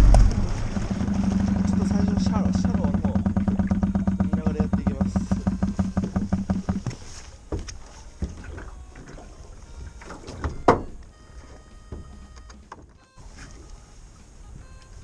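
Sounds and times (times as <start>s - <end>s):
knocks and handling on boat: 0.0s - 13.8s.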